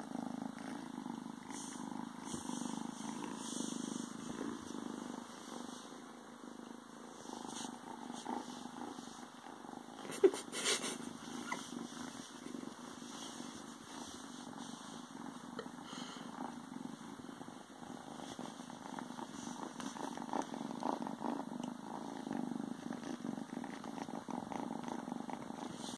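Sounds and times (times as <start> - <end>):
kitten purring: 0.0 - 25.9.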